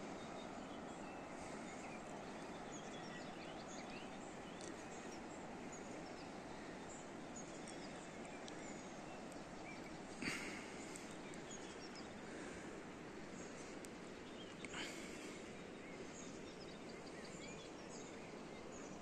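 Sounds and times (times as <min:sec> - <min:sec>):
background hiss: 0:00.0 - 0:19.0
distant bird chirps: 0:00.0 - 0:19.0.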